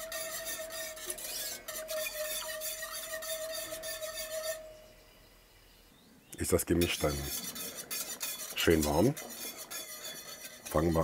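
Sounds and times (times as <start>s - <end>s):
whisk scraping a pot: 0.0s - 4.8s, 6.6s - 11.0s.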